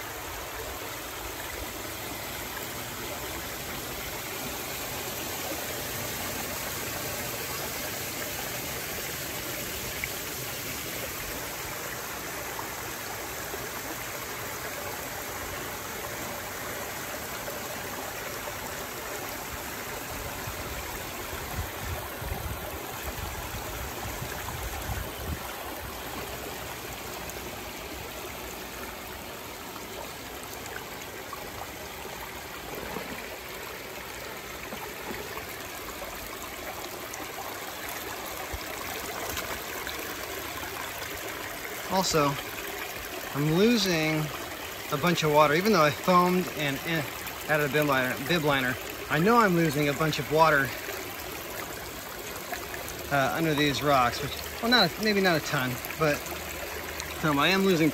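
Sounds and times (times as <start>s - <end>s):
water trickling over weir: 0.0s - 57.9s.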